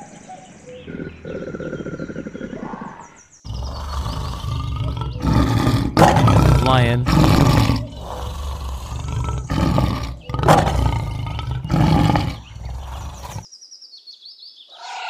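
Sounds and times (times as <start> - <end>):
faint bird chirps: 0.0 - 5.5, 7.8 - 15.0
lion roaring: 0.8 - 13.5.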